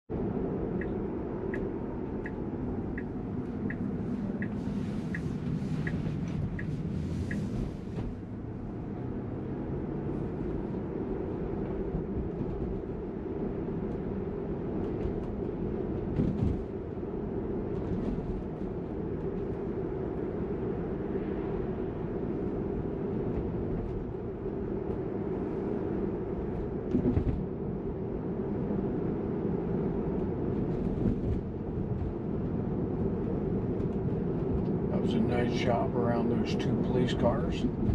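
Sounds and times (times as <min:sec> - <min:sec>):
tyre and road noise: 0:00.1 - 0:37.9.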